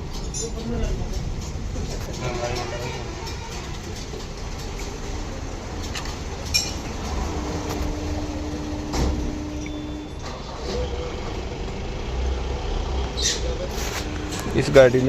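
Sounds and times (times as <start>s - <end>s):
car engine idling with misfire: 0.0s - 15.0s
steady hum: 1.2s - 10.3s, 11.0s - 15.0s.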